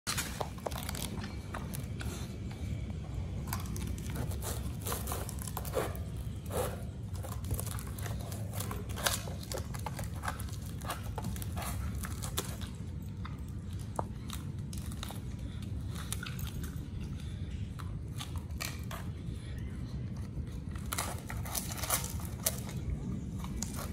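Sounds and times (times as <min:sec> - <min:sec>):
dog gnawing coconut husk: 0:00.1 - 0:23.9.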